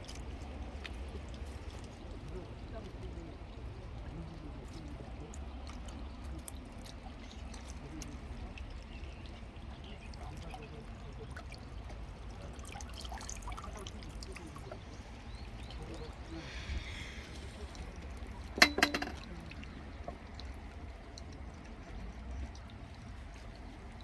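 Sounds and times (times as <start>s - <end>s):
water trickling and pouring: 0.0s - 24.0s.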